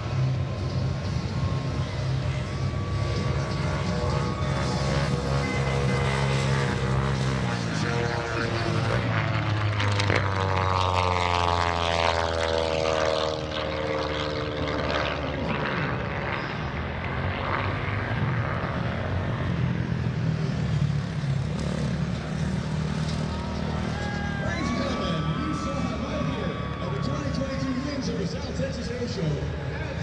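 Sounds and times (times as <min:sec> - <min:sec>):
propeller aircraft flying past: 0:00.0 - 0:30.0.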